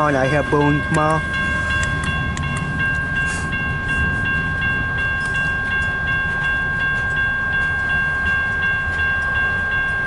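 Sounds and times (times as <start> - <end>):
crossing bell ringing: 0.0 - 10.0
freight train rumbling past: 0.0 - 10.0
steady high tone: 0.0 - 10.0.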